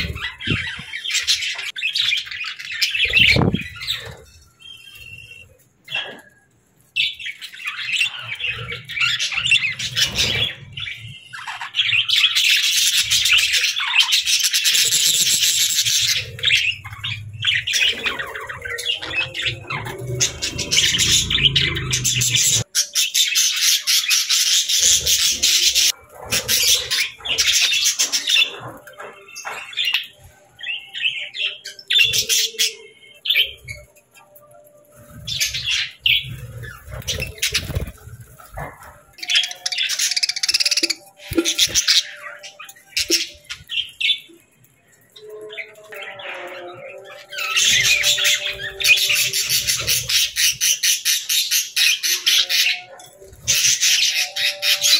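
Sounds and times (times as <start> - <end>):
budgerigars chirping and chattering: 0.0 - 54.9.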